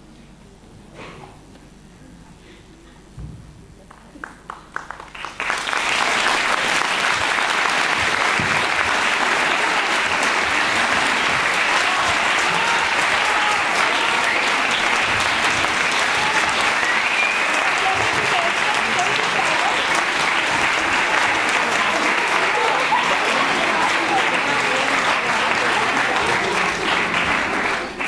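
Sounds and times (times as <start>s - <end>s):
audience applauding: 3.8s - 28.0s.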